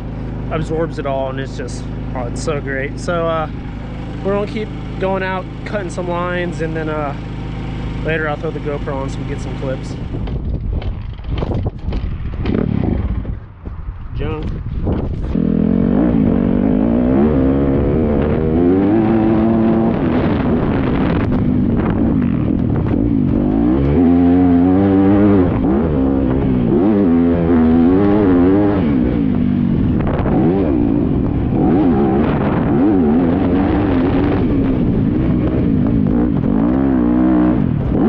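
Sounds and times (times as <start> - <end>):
dirt bike engine revving: 0.0 - 13.5, 15.1 - 38.0.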